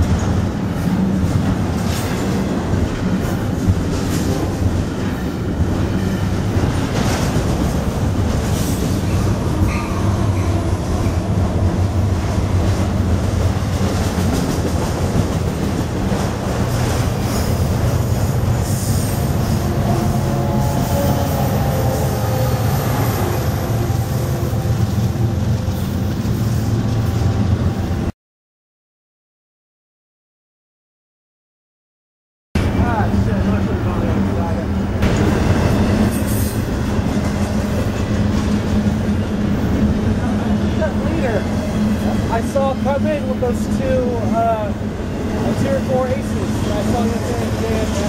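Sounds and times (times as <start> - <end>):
freight train rolling past: 0.0 - 28.1, 32.6 - 48.0
steel wheels rumbling on rail: 0.0 - 28.1, 32.6 - 48.0.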